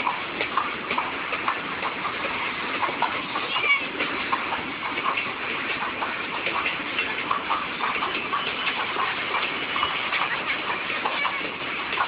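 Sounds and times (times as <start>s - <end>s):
clicks and knocks of train: 0.0s - 12.0s
freight train wheels rattling: 0.0s - 12.0s.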